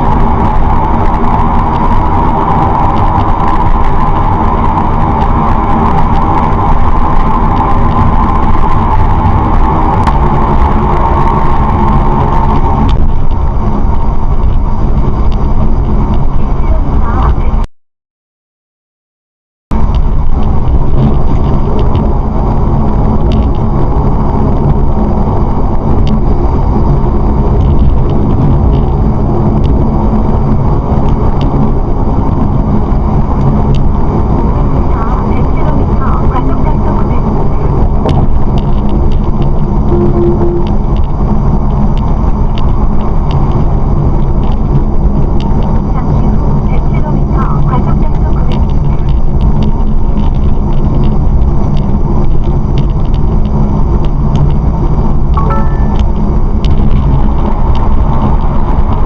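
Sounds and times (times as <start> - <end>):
car engine and tyre noise: 0.0 - 17.7, 19.7 - 59.0.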